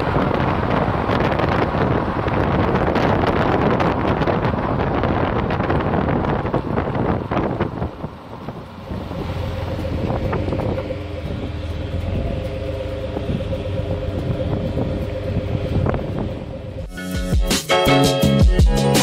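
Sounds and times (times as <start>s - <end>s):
car engine idling: 0.0s - 17.4s.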